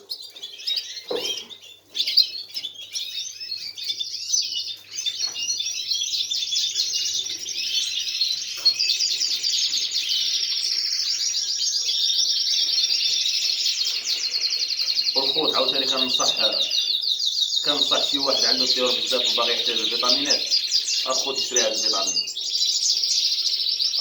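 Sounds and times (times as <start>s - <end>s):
canaries singing: 0.0s - 24.0s.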